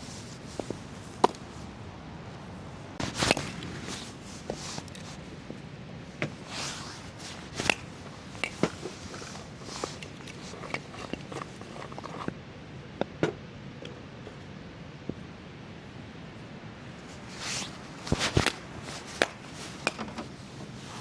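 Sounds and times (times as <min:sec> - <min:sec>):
soft rustling: 0:00.0 - 0:12.4, 0:16.4 - 0:21.0
steady background hiss: 0:00.0 - 0:21.0.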